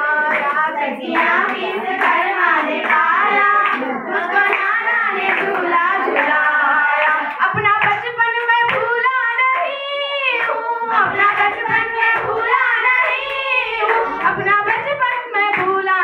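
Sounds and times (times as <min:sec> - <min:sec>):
hand clapping: 0:00.2 - 0:16.0
girl singing into microphone: 0:02.8 - 0:16.0.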